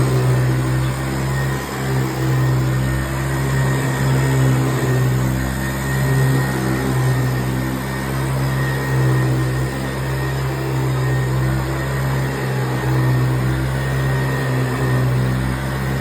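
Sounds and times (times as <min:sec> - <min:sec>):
upright vacuum humming: 0:00.0 - 0:16.0.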